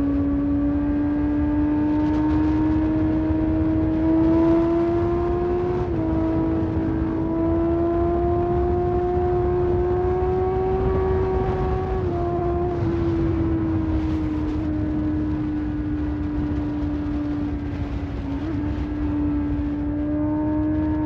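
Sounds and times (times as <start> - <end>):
motorcycle engine at high revs: 0.0 - 21.0
wind rush: 0.0 - 21.0.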